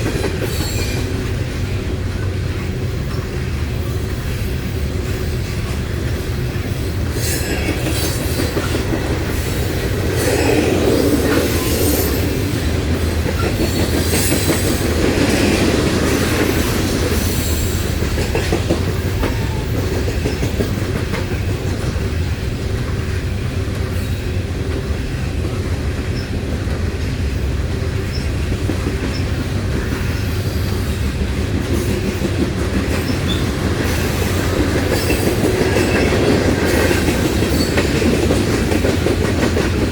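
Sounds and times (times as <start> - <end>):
wheels clacking over rail joints: 0.0 - 24.0, 24.7 - 39.9
freight train rumbling past: 0.0 - 39.9.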